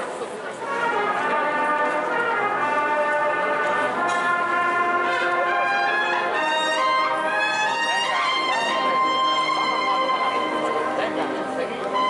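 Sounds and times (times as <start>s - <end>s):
brass band playing a march: 0.6s - 12.0s.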